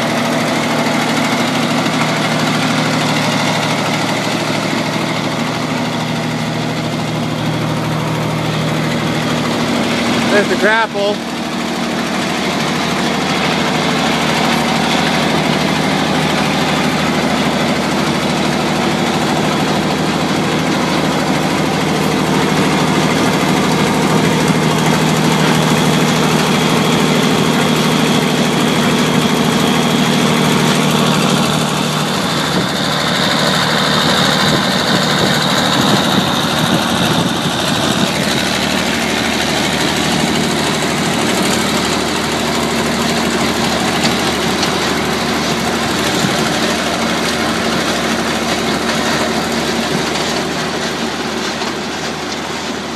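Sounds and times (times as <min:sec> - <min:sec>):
diesel grinder running: 0:00.0 - 0:52.9.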